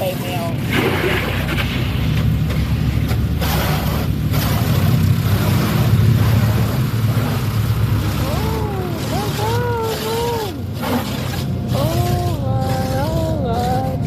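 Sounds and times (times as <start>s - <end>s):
car wash machinery: 0.0s - 14.0s
low rumble: 0.0s - 14.0s
water spray rushing: 0.0s - 14.0s.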